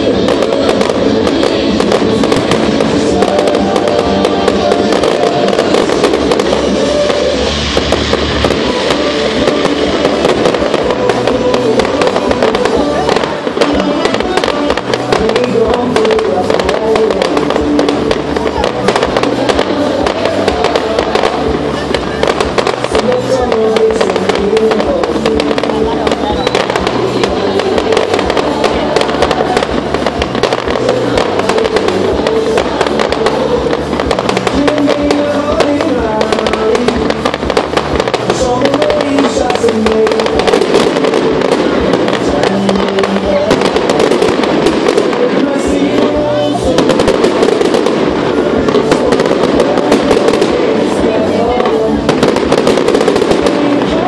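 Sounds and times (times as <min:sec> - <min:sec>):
fireworks bursting and crackling: 0:00.0 - 0:54.0
music playing: 0:00.0 - 0:54.0.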